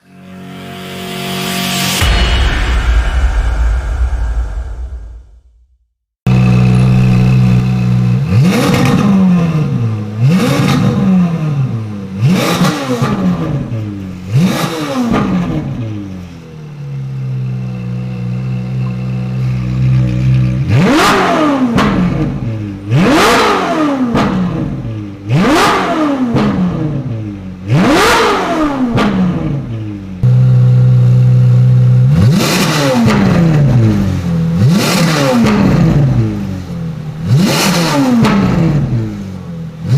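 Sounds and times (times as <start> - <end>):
sports car engine revving: 6.3 - 39.9.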